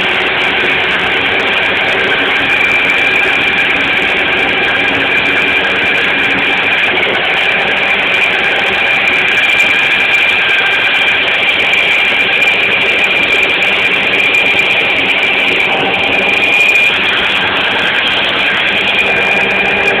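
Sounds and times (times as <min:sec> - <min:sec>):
riding mower engine running: 0:00.0 - 0:20.0
steady high whine: 0:00.0 - 0:20.0.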